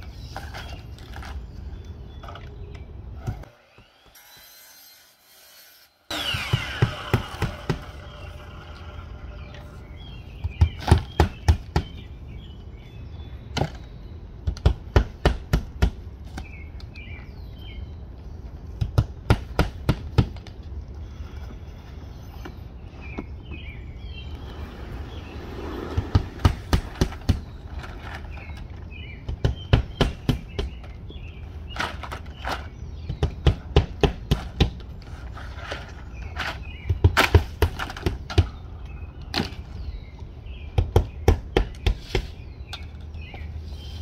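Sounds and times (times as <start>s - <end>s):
birds chirping: 0.0s - 19.6s, 20.6s - 44.0s.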